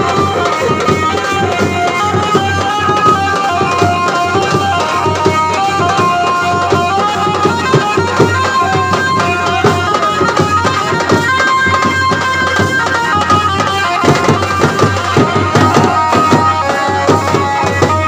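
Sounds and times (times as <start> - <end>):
hand drum beats: 0.0 - 18.0
melody of held notes: 0.0 - 18.0.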